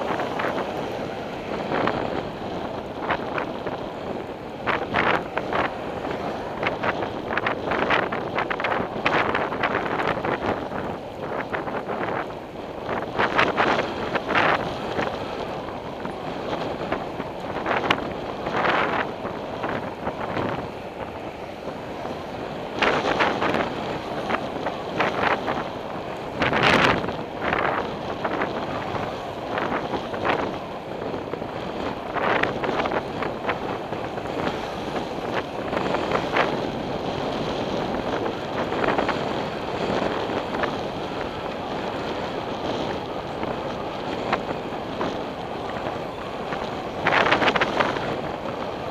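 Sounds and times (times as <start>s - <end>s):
road noise: 0.0s - 48.9s
wind buffeting microphone: 0.0s - 48.9s.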